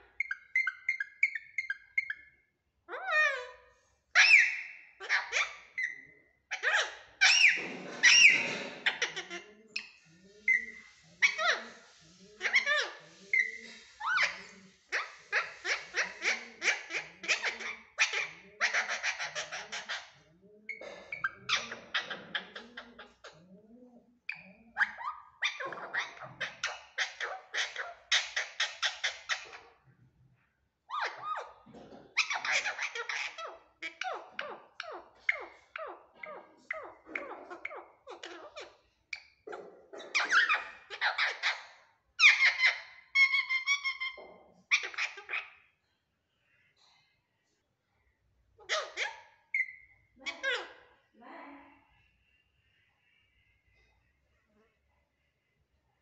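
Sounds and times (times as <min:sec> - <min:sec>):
parakeet squawking and chirping: 0:00.0 - 0:23.5, 0:24.2 - 0:30.0, 0:30.9 - 0:46.7, 0:48.5 - 0:51.1.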